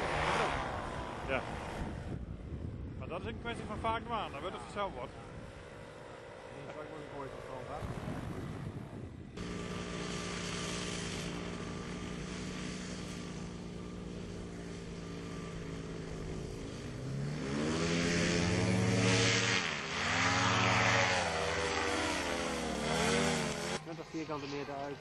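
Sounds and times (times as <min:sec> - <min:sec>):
paramotor engine and propeller: 0:00.0 - 0:25.0.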